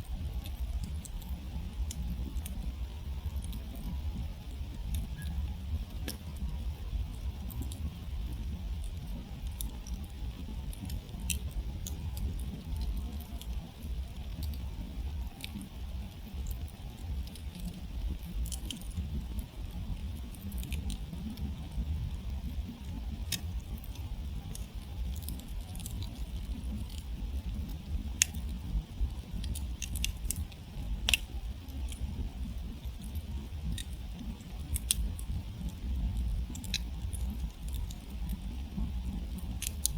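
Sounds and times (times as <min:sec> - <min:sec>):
campfire crackling and popping: 0:00.0 - 0:39.9
low steady rumble: 0:00.0 - 0:39.9.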